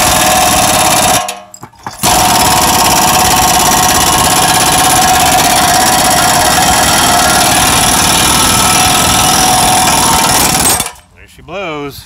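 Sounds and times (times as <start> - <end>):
pneumatic impact wrench hammering: 0.0 - 11.1.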